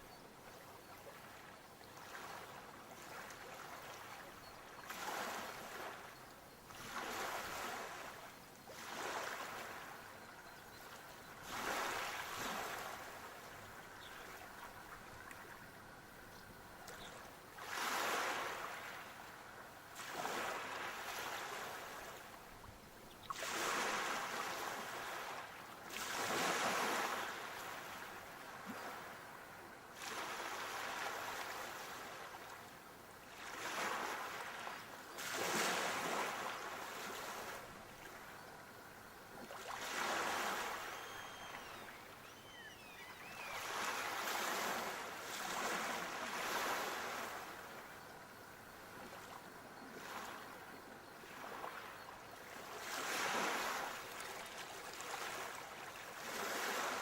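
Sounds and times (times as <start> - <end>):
sea waves breaking on shore: 0.9 - 32.6, 33.3 - 50.6, 51.2 - 57.0.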